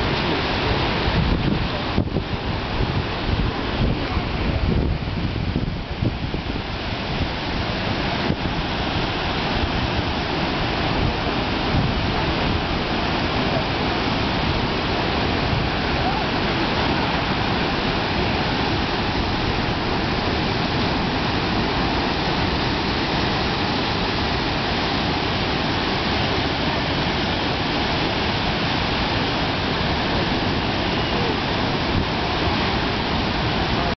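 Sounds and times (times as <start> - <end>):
ocean surf breaking: 0.0 - 34.0.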